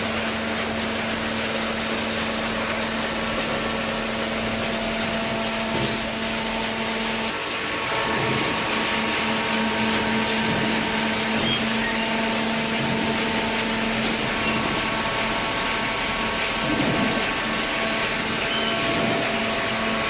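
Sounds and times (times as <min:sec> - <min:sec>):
hydraulic baler humming: 0:00.1 - 0:20.0.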